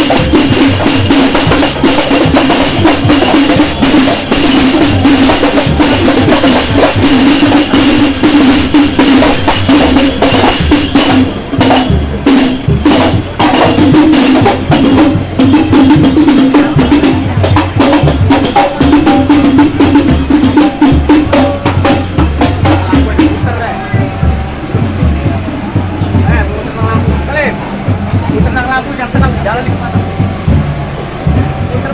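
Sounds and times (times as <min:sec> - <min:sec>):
heavy bass pulses: 0:00.0 - 0:31.9
jingling tambourine percussion: 0:00.0 - 0:31.9.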